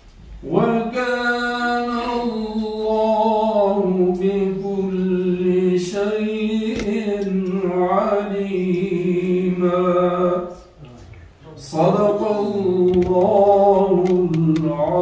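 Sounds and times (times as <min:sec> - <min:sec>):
man reciting melodically: 0:00.4 - 0:15.0.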